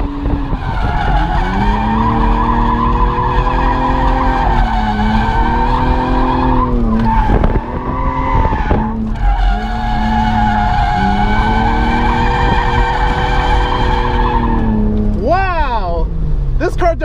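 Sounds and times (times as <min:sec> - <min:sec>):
car engine revving hard: 0:00.0 - 0:15.2.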